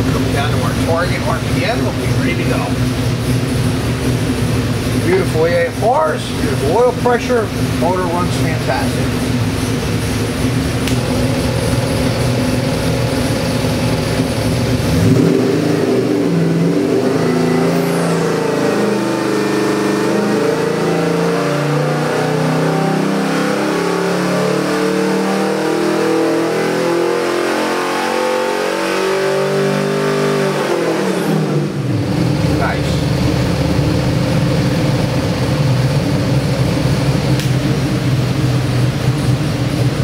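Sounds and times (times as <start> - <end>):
engine revving on dynamometer: 0.0 - 40.0.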